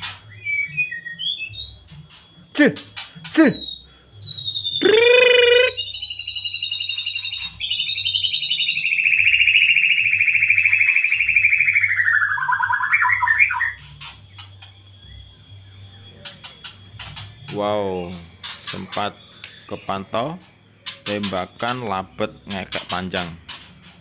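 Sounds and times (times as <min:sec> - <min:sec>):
bird trilling: 0:00.0 - 0:23.5.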